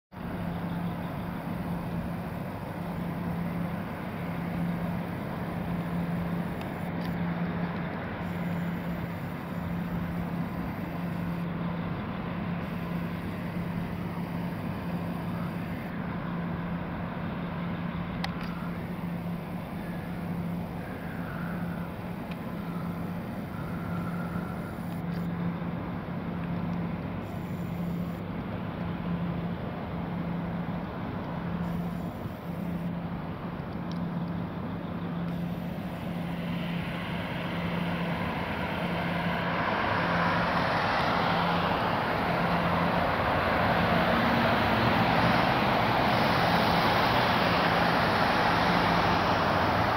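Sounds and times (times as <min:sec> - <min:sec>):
constant low hum: 0:00.1 - 0:49.9
vehicles passing: 0:00.1 - 0:49.9.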